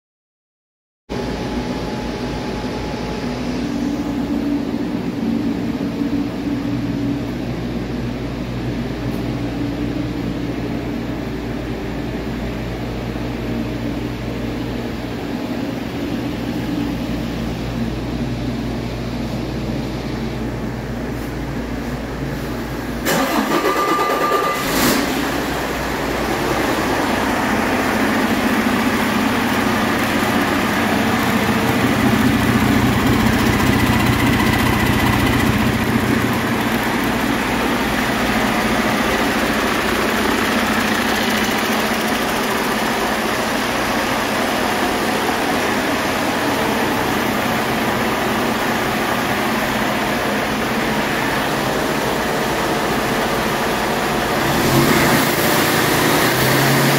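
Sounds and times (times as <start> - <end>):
diesel engine running: 1.1 - 56.9.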